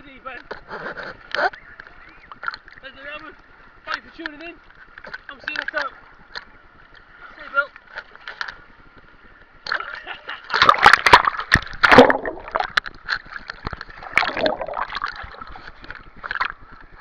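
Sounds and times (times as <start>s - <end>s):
water splashing and sloshing: 0.6s - 17.0s.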